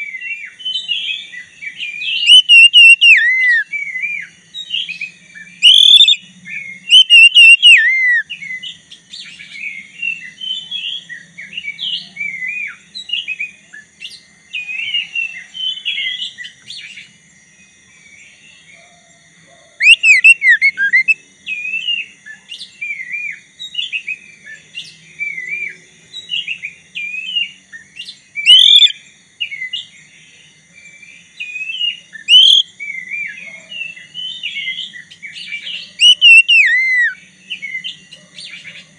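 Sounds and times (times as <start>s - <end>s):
bird singing whistles and chirps: 0.0s - 17.1s, 19.8s - 30.1s, 30.8s - 38.7s.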